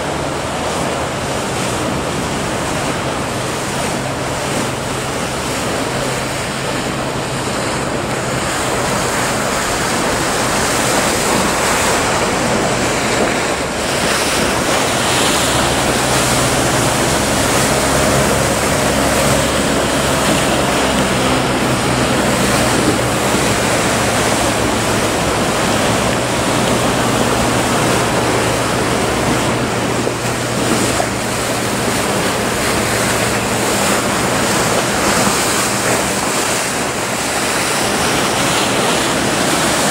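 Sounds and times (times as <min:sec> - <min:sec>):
motorboat engines droning: 0:00.0 - 0:39.9
waves breaking: 0:00.0 - 0:39.9
wind on microphone: 0:00.0 - 0:39.9.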